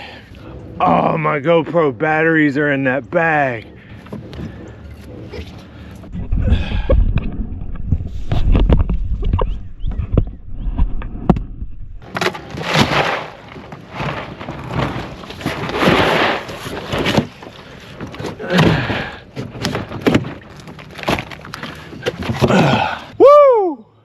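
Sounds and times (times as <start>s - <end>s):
water splashing and sloshing: 0.0s - 1.3s, 2.8s - 23.1s.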